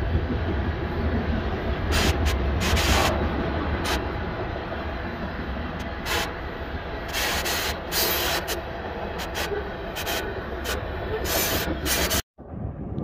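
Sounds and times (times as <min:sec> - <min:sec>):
train wheels rumbling on rail: 0:00.0 - 0:12.8.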